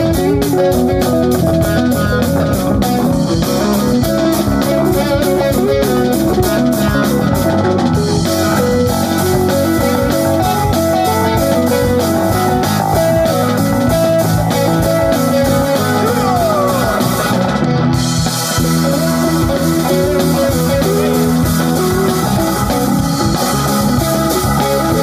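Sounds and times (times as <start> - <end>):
falling sliding guitar note: 0.0 - 25.0
rock band playing: 0.0 - 25.0.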